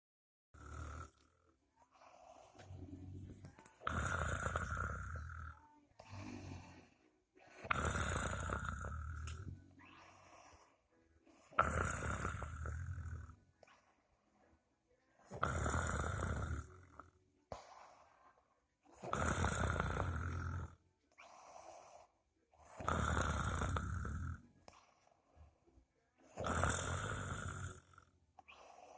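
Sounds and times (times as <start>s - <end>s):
person snoring: 0.6s - 14.0s, 15.2s - 25.4s, 26.2s - 28.9s
quiet breaths: 0.6s - 28.9s.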